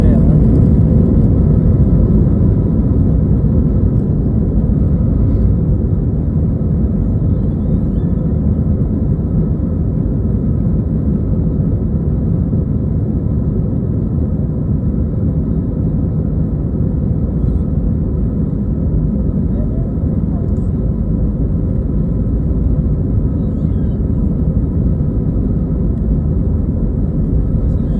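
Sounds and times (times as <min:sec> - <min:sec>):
jet engines rumbling: 0:00.0 - 0:27.9.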